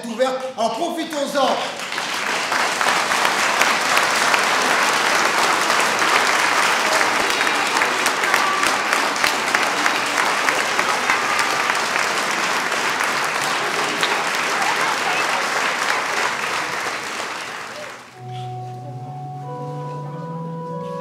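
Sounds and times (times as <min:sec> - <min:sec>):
crowd applauding: 0:00.0 - 0:18.9.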